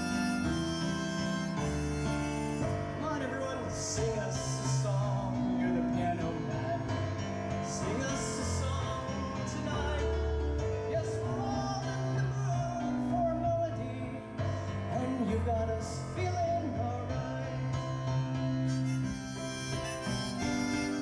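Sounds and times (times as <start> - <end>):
keyboard music through pa: 0.0 - 21.0.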